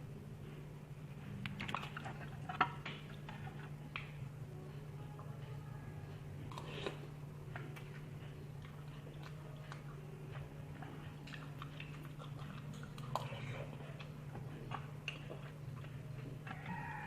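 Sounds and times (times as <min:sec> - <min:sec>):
steady low hum: 0:00.0 - 0:17.0
person chewing food: 0:01.2 - 0:04.3, 0:06.1 - 0:17.0.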